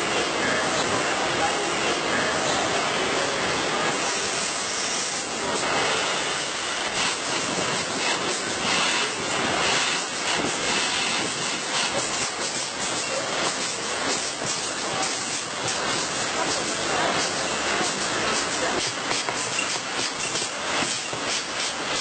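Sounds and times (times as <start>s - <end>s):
machinery hiss: 0.0s - 22.0s.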